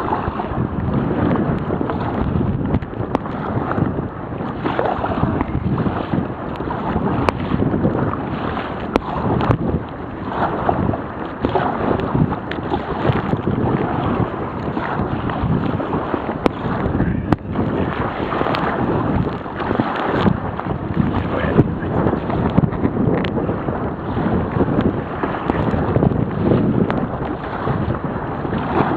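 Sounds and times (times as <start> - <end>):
sea water splashing: 0.0 - 28.9
wind buffeting microphone: 0.0 - 28.9.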